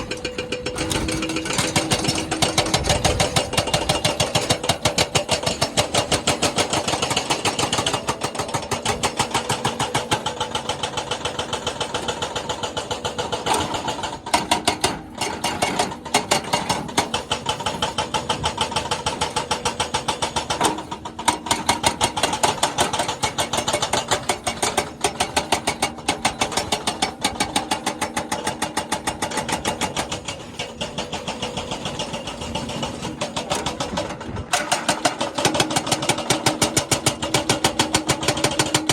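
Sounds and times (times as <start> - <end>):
jackhammer hammering: 0.0 - 38.9.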